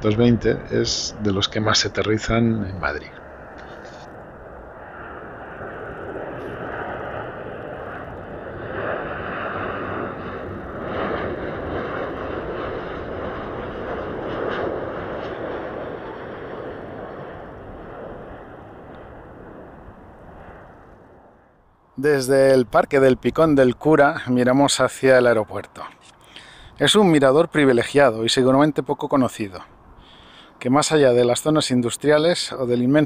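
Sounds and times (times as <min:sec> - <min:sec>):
jet engines passing overhead: 0:00.0 - 0:33.0.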